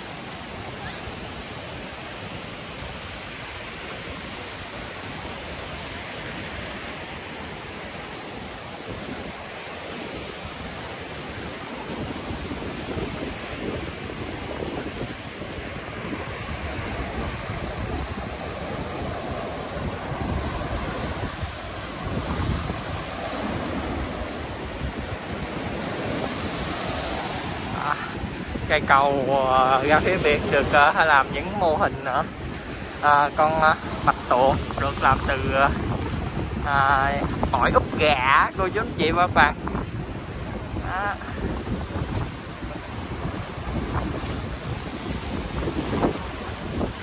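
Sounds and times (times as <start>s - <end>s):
sea surf washing in: 0.0s - 47.0s
wind buffeting microphone: 0.0s - 47.0s.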